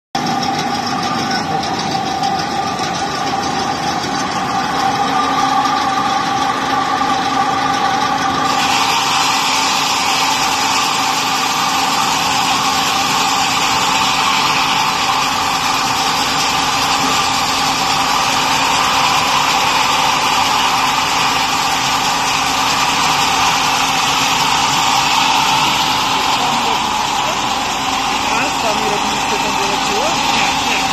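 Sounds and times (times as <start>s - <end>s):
rip saw whining: 0.2s - 30.9s.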